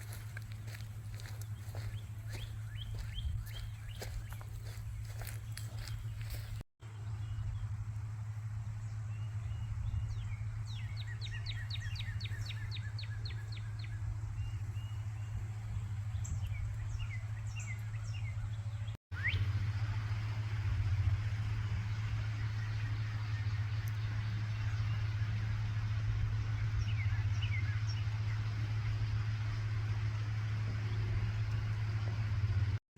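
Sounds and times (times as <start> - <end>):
birds singing: 0.0 - 19.6, 21.3 - 32.8
steady low hum: 0.0 - 32.8.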